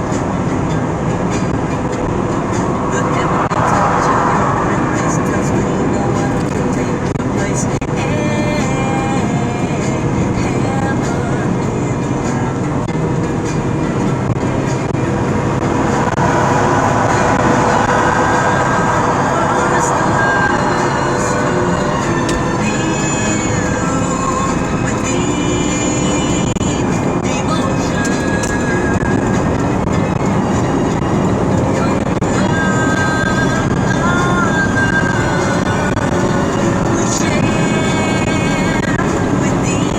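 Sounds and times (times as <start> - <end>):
music playing: 0.0 - 39.9
road and engine noise in cabin: 0.0 - 39.9.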